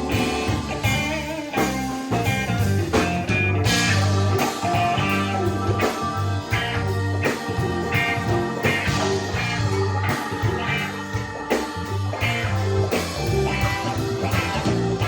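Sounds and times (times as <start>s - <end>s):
blues rock band instrumental: 0.0s - 15.0s.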